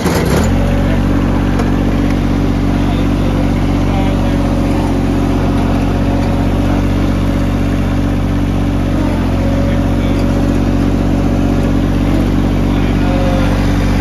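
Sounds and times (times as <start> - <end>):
ride-on mower diesel engine running: 0.0 - 14.0.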